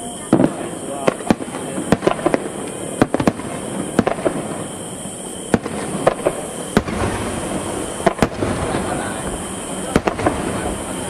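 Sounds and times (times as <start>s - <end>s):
firework shells bursting: 0.2s - 11.0s.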